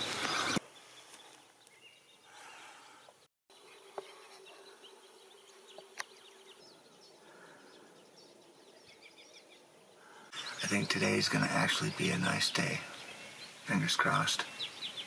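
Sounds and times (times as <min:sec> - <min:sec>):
distant songbird chirps: 0:00.0 - 0:15.0.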